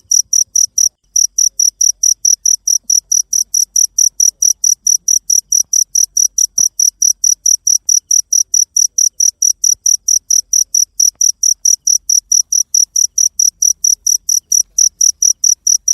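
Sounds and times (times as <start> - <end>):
cricket chirping: 0.0 - 15.9.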